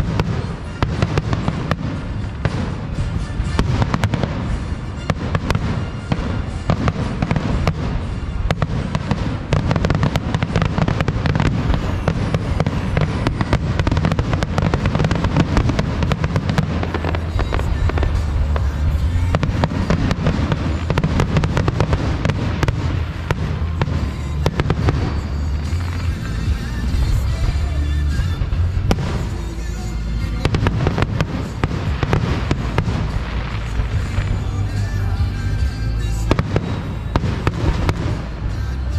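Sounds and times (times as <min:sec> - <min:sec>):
fireworks bangs and crackles: 0:00.0 - 0:38.9
music playing: 0:00.0 - 0:38.9.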